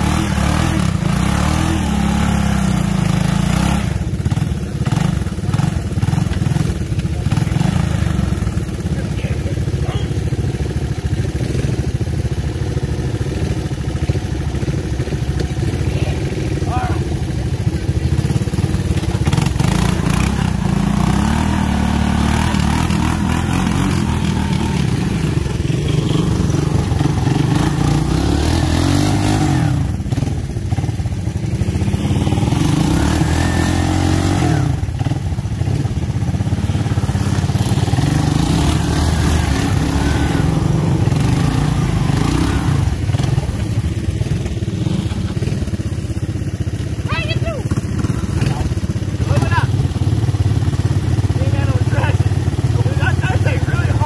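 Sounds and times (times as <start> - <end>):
engines running and revving: 0.0 - 54.0.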